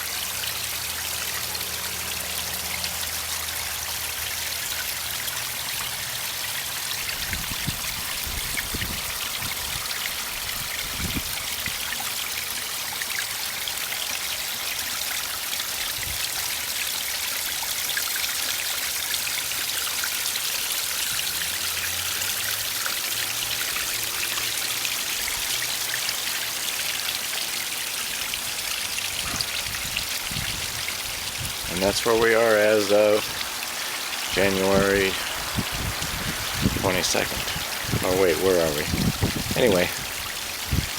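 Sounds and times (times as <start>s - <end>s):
water splashing over rocks: 0.0s - 40.9s.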